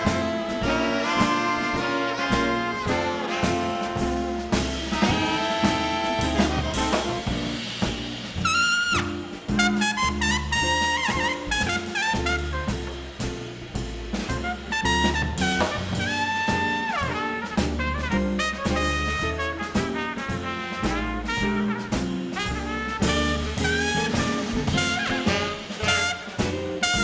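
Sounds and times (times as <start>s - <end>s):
horn line with falling notes: 0.0s - 13.3s, 14.1s - 27.0s
drums: 0.0s - 27.0s
walking upright bass: 0.0s - 27.0s.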